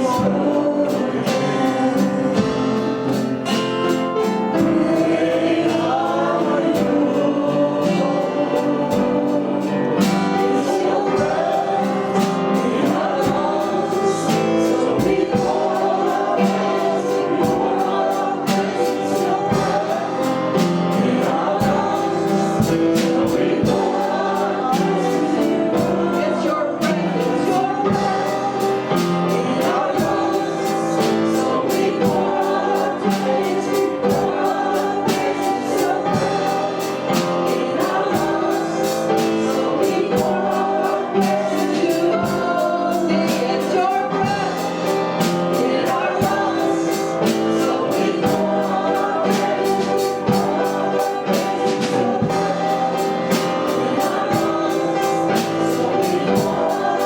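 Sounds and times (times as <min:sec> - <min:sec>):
band with steady beat: 0:00.0 - 0:57.0
group singing worship song: 0:00.0 - 0:57.0.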